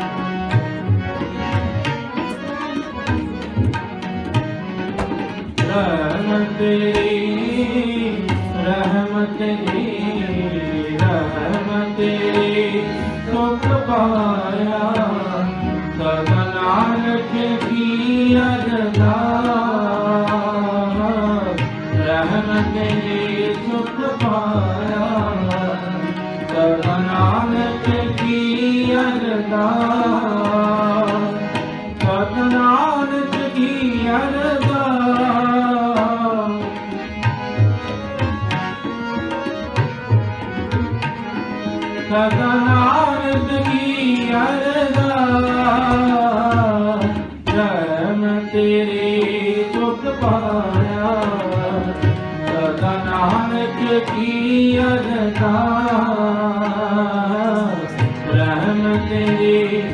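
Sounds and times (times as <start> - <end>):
harmonium: 0.0 - 59.9
tabla drumming: 0.0 - 59.9
voices singing devotional songs: 5.6 - 59.9.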